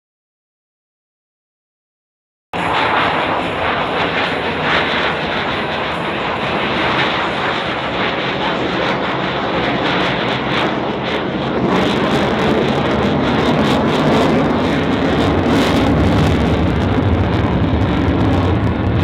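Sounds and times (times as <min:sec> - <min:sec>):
jet engine rush: 0:02.6 - 0:19.0.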